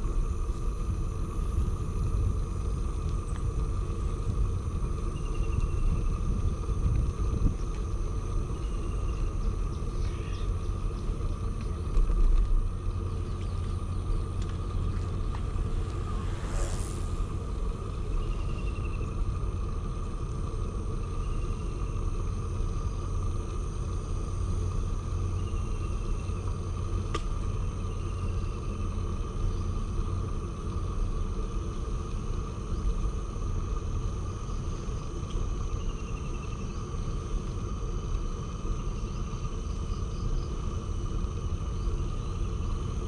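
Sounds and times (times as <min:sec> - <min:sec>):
faint steady whine: 0:00.0 - 0:43.0
wind and rolling rumble: 0:00.0 - 0:43.0.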